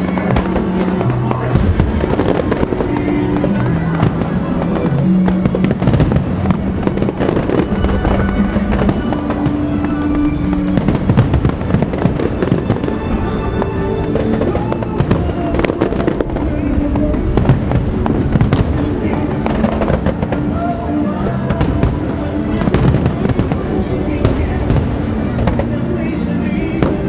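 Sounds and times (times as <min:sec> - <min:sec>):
fireworks bursting: 0:00.0 - 0:27.0
show music with held notes: 0:00.0 - 0:27.0.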